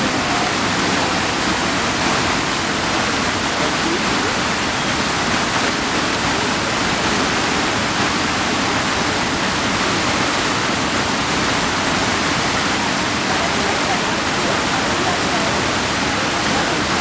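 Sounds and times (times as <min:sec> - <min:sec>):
rushing creek water: 0:00.0 - 0:17.0.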